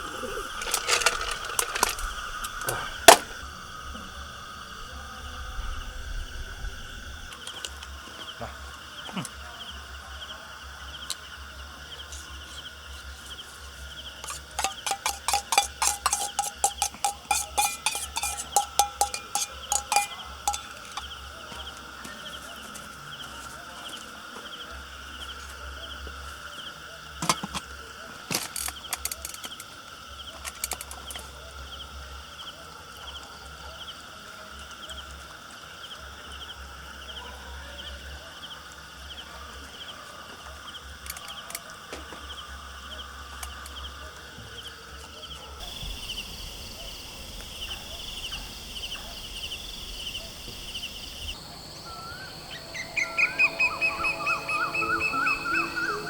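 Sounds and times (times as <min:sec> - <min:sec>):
pulsing insect drone: 0:00.0 - 0:56.0.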